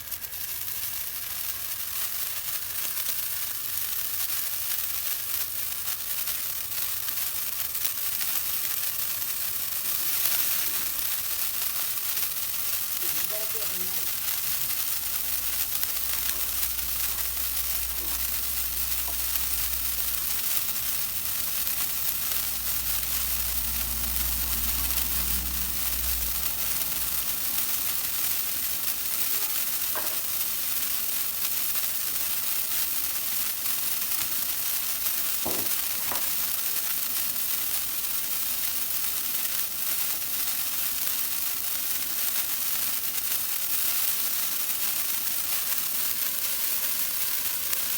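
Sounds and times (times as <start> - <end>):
firework sparks hissing: 0.0 - 47.9.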